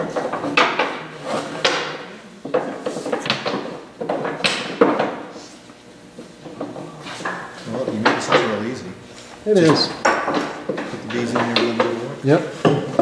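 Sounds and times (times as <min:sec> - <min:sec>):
sharp knocks and clatters: 0:00.0 - 0:05.4, 0:06.2 - 0:08.8, 0:09.7 - 0:13.0.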